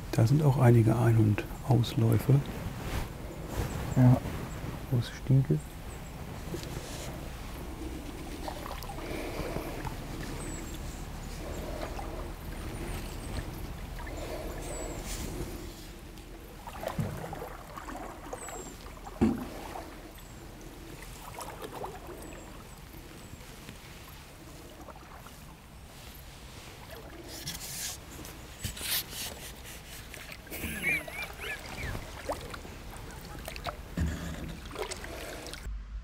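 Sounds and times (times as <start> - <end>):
water swishing around oar: 0.0 - 35.7.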